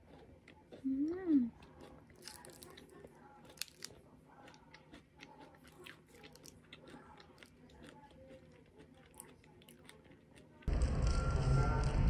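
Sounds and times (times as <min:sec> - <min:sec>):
faint chewing crunches: 0:00.0 - 0:10.7.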